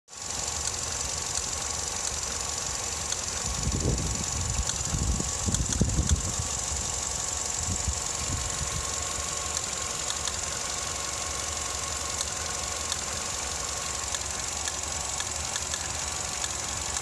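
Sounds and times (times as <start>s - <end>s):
car engine idling roughly: 0.1s - 17.0s.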